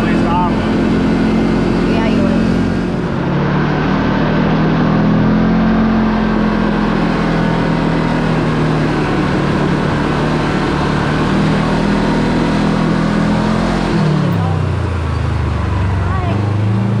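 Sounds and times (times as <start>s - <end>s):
utility vehicle engine driving: 0.0s - 17.0s.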